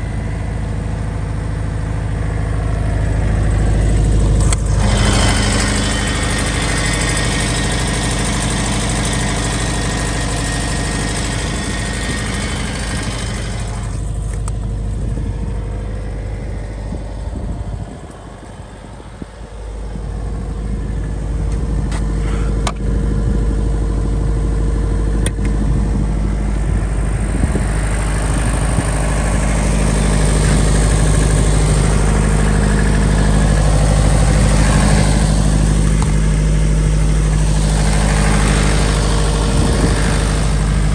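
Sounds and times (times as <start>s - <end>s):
diesel generator running: 0.0s - 40.9s.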